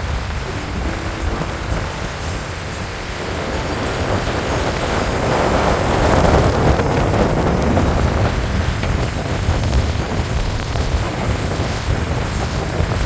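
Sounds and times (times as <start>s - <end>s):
tyres rumbling on wet road: 0.0s - 13.0s
wind hiss: 0.0s - 13.0s.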